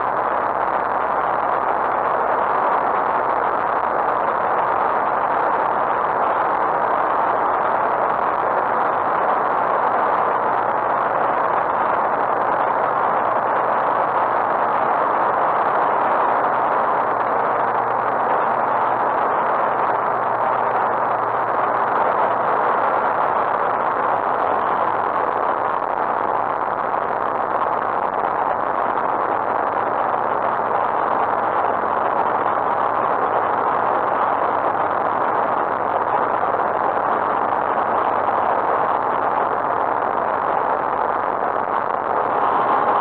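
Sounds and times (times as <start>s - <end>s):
rushing airflow: 0.0s - 43.0s.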